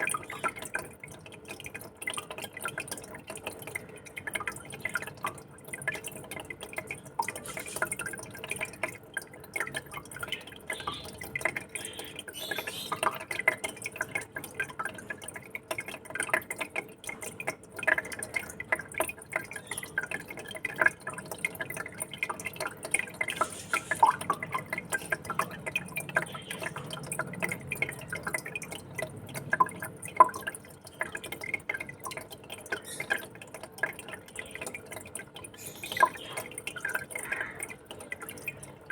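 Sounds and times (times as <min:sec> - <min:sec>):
faint steady hum: 0:00.0 - 0:38.9
water trickling and bubbling: 0:00.0 - 0:38.9.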